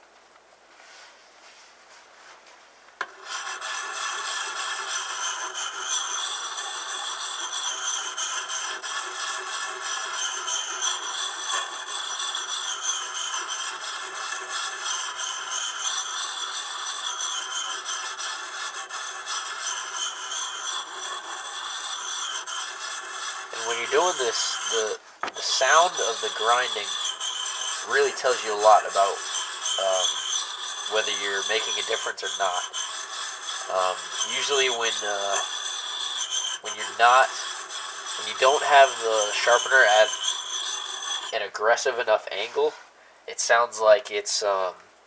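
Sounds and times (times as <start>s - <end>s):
sharpening stone scraping blade: 3.0s - 42.7s.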